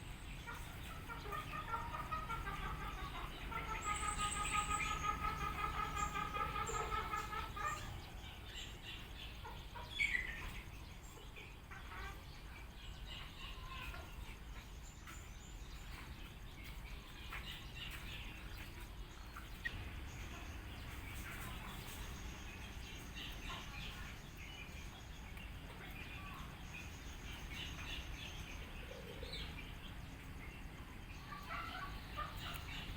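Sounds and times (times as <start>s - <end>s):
birds chirping and calling: 0.0s - 32.9s.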